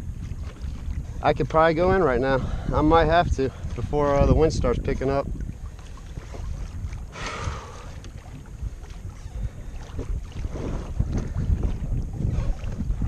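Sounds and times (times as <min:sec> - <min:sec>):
small waves lapping against hull: 0:00.0 - 0:13.0
wind buffeting microphone: 0:00.0 - 0:13.0.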